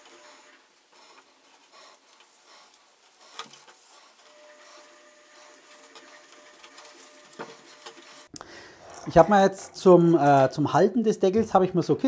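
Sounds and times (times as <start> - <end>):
tape rubbing and rustling: 0.0 - 10.5.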